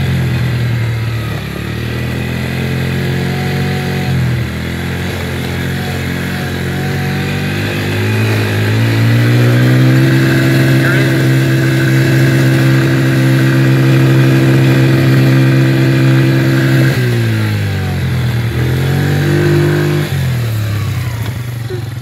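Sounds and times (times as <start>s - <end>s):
off-road vehicle engine running: 0.0s - 22.0s.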